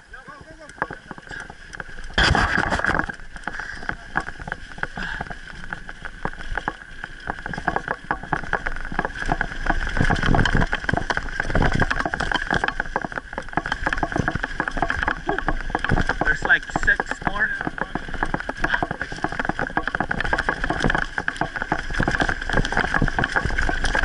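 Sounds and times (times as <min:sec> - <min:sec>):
mountain bike clattering: 0:00.0 - 0:24.0.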